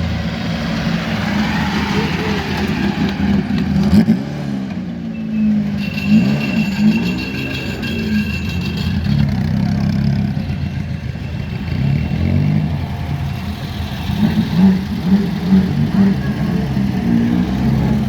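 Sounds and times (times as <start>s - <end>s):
car engines revving at low revs: 0.0s - 7.2s, 9.1s - 18.0s.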